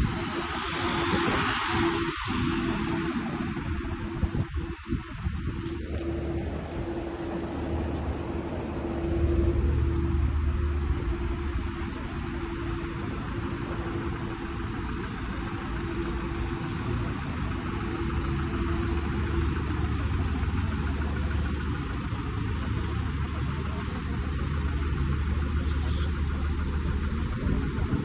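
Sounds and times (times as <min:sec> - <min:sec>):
road noise hiss: 0:00.0 - 0:28.0
traffic engine hum: 0:00.0 - 0:28.0.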